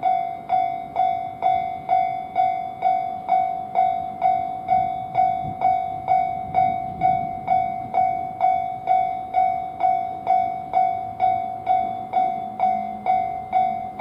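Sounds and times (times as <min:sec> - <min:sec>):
level crossing warning bell ringing: 0:00.0 - 0:14.0.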